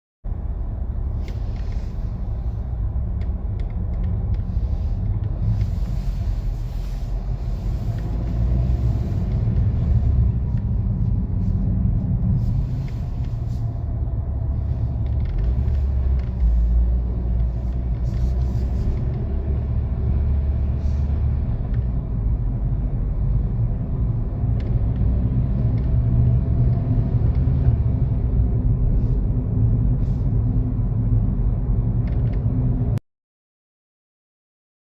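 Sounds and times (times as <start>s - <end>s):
car engine and road rumble: 0.2s - 33.0s.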